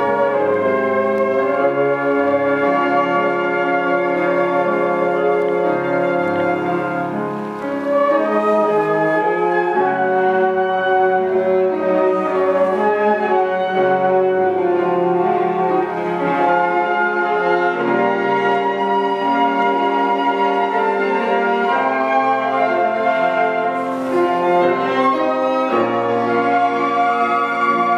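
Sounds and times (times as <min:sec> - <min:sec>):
flute ensemble playing held notes: 0:00.0 - 0:27.9.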